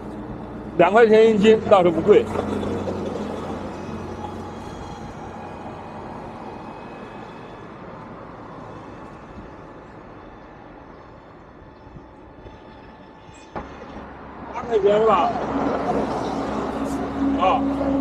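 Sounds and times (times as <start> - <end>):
vehicle passing: 0.0 - 11.6, 12.6 - 18.0.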